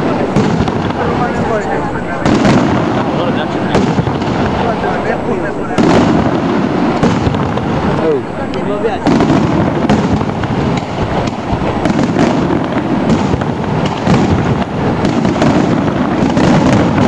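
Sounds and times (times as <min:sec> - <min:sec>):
firework shells bursting: 0:00.0 - 0:17.0.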